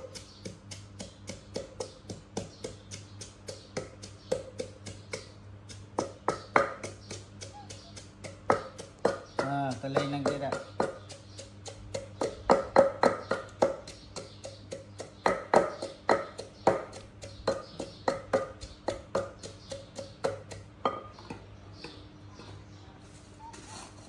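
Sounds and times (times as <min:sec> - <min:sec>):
wooden pestle pounding in mortar: 0:00.0 - 0:22.0.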